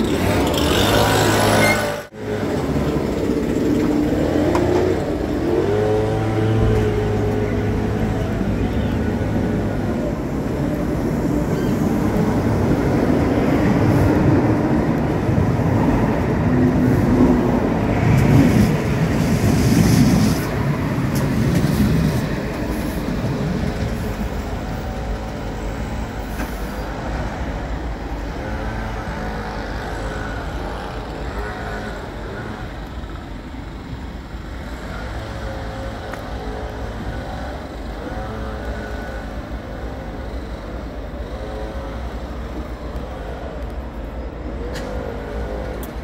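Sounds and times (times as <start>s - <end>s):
light-rail train passing: 0.0s - 46.0s.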